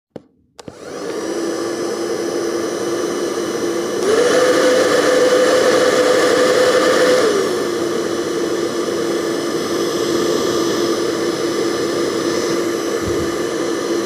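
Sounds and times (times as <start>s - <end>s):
hair dryer running: 0.6s - 14.0s.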